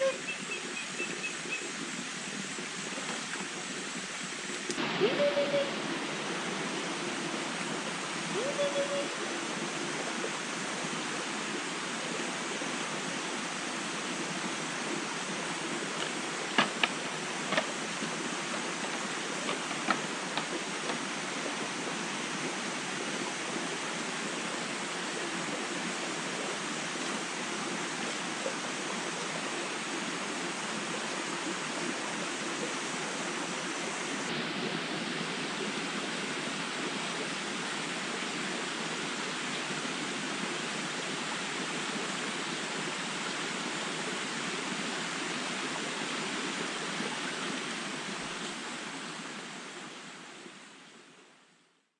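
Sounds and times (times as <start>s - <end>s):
flowing water: 0.0s - 51.9s.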